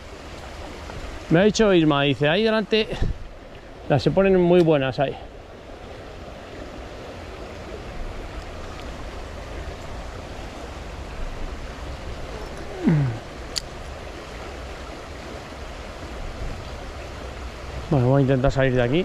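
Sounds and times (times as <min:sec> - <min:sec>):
river flowing over stones: 0:00.0 - 0:19.0.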